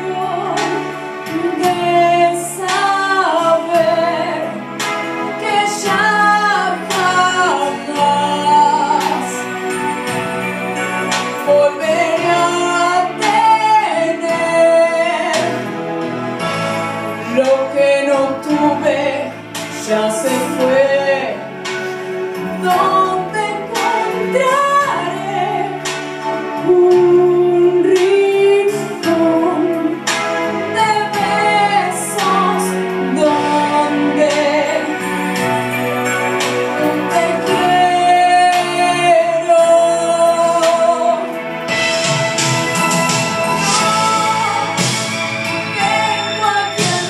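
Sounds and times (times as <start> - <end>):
woman singing: 0.0 - 15.8, 17.2 - 21.7, 22.4 - 41.7, 43.5 - 47.0
instrumental accompaniment: 0.0 - 47.0.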